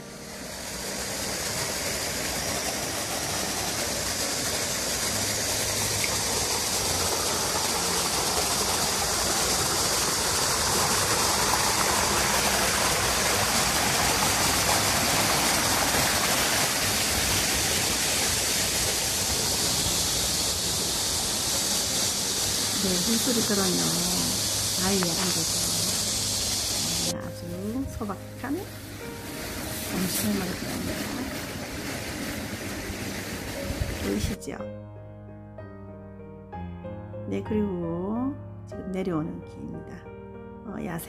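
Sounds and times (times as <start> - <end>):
stream rushing over stones: 0.0 - 34.4.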